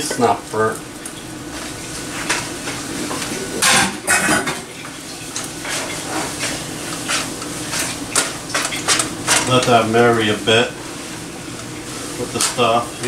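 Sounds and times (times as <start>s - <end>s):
low sizzle from pan: 0.0s - 13.0s.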